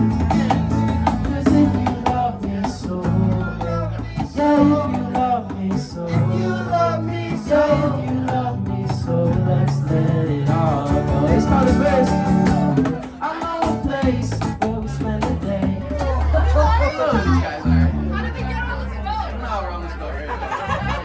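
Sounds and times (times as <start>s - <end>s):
live band playing: 0.0s - 18.6s
guitar: 0.0s - 19.0s
bass: 0.0s - 21.0s.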